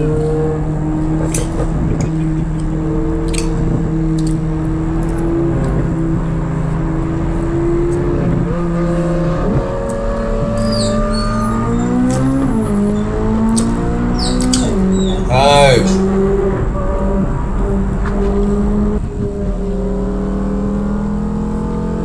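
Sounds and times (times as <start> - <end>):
sports car engine revving high: 0.0 - 22.0.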